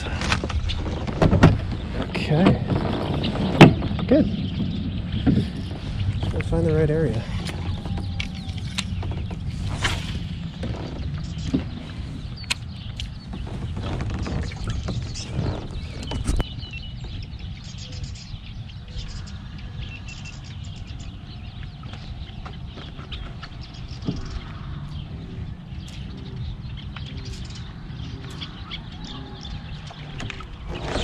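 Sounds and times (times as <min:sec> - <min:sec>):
steady low rumble: 0:00.0 - 0:31.0
bird chirps: 0:01.8 - 0:31.0.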